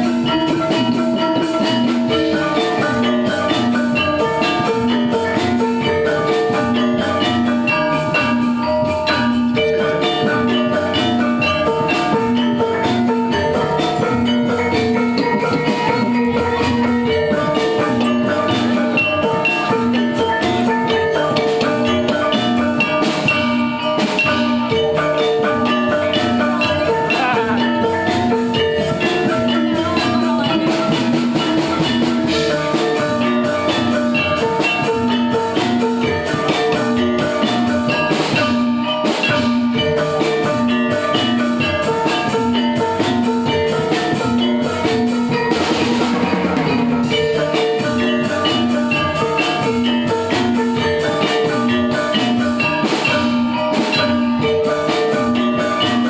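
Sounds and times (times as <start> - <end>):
steady drumming: 0.0 - 56.0
tuned metal percussion melody: 0.0 - 56.0.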